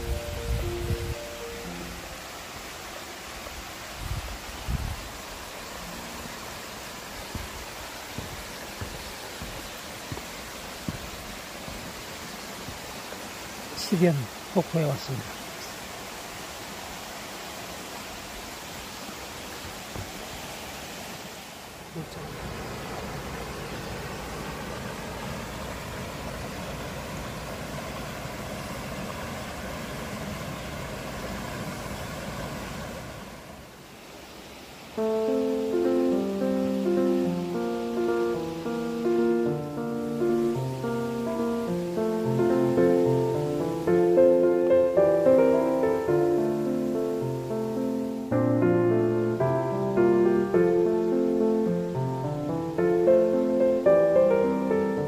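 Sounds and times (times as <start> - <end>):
stream and small waterfall: 0.0 - 55.0.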